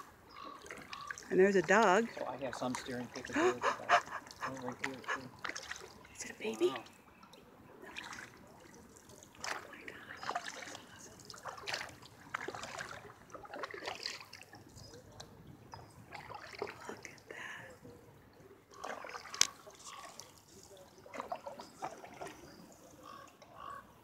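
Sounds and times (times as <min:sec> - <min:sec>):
canoe paddle strokes in water: 0:00.0 - 0:06.1, 0:07.8 - 0:17.2, 0:18.7 - 0:23.6
water drips and small splashes: 0:00.0 - 0:24.0.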